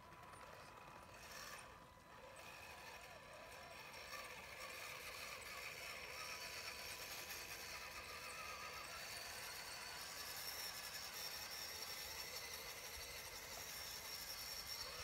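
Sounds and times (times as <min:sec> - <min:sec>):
electric motor whine: 0:00.0 - 0:15.0
toy truck driving through water: 0:00.0 - 0:15.0.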